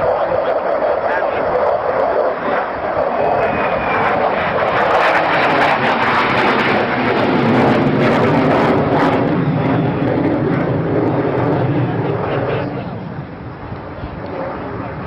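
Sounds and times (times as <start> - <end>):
aircraft engine flying by: 0.0 - 15.0.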